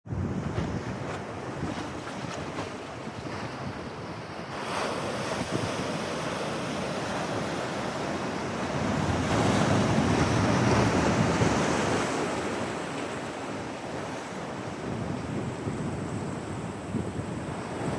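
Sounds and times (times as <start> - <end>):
wind buffeting microphone: 0.0 - 12.6, 13.4 - 17.9
waves breaking: 0.1 - 17.9.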